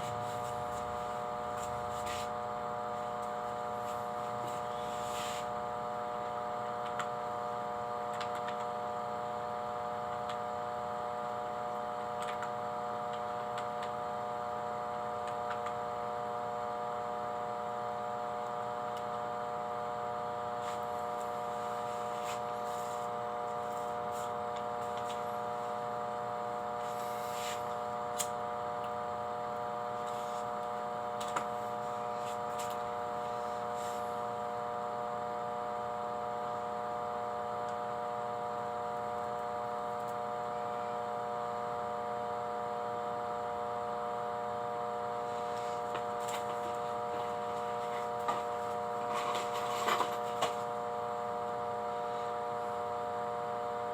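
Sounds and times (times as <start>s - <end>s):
electrical hum: 0.0s - 53.9s.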